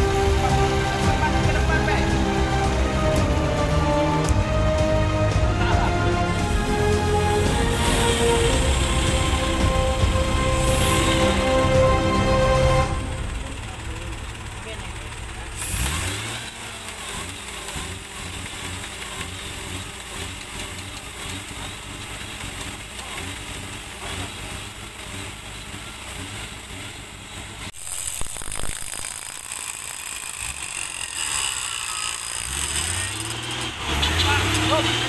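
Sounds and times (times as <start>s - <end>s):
engine idling with rattle: 0.0s - 35.0s.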